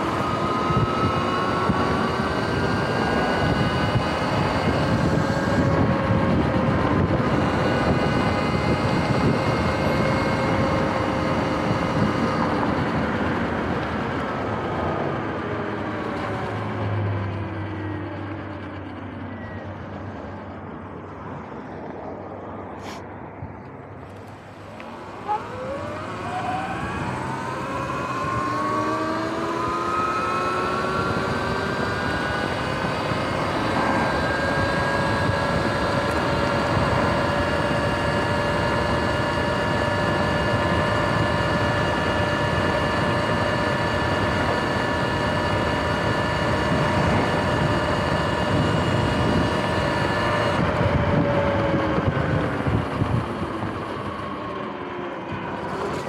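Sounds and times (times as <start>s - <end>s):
wind noise: 0.0s - 17.0s, 24.9s - 54.7s
electric motorbike motor whining: 0.0s - 23.0s, 23.6s - 56.0s.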